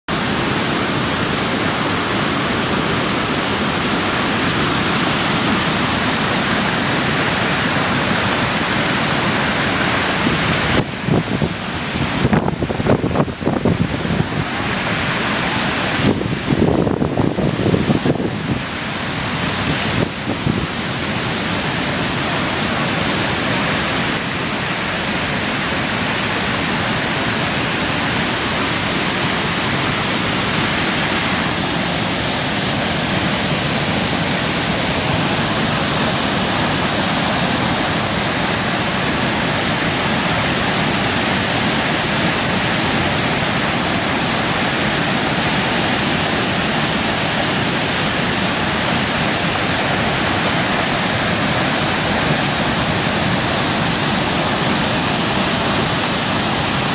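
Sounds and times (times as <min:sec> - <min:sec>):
waterfall rushing: 0:00.1 - 0:56.9.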